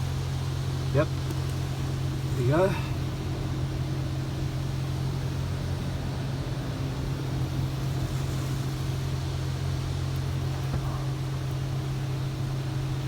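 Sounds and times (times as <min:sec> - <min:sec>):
automatic car wash running: 0:00.0 - 0:13.0.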